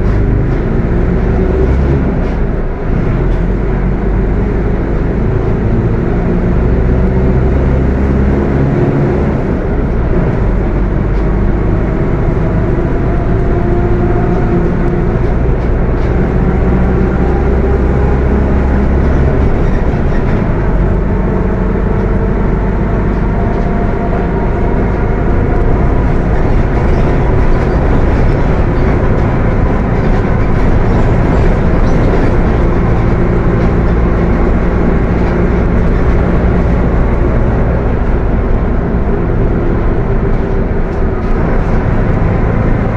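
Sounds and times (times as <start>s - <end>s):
bus diesel engine running: 0.0s - 42.9s
transmission growling whine: 0.0s - 42.9s.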